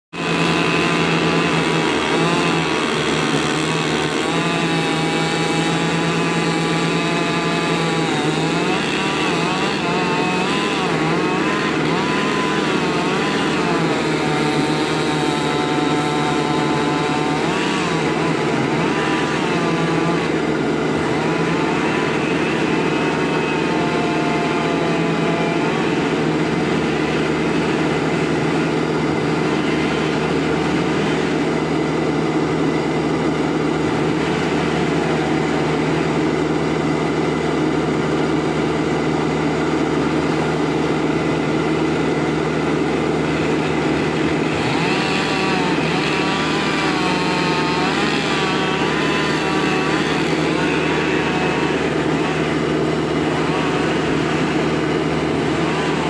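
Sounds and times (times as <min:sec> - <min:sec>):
deep engine hum: 0:00.1 - 0:56.0.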